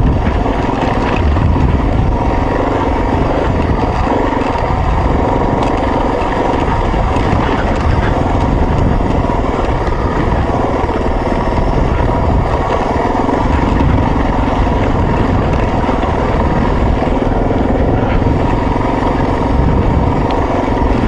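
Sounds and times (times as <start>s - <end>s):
bike rumbling over dirt trail: 0.0s - 21.0s
motorcycle engine running: 0.0s - 21.0s.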